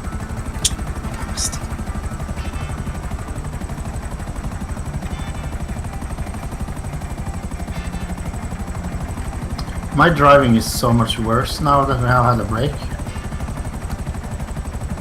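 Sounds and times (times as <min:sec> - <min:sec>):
remote-control helicopter whirring: 0:00.0 - 0:15.0.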